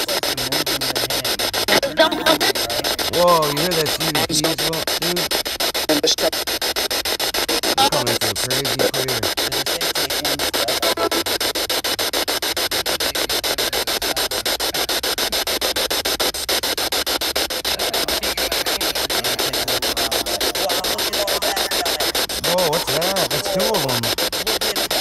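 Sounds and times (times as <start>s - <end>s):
chopped radio static: 0.0s - 25.0s
faint radio broadcast snatches: 0.0s - 25.0s.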